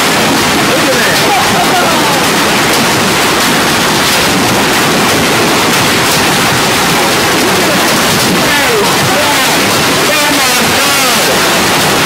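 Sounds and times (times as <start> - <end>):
heavy hail and rain falling: 0.0 - 12.0.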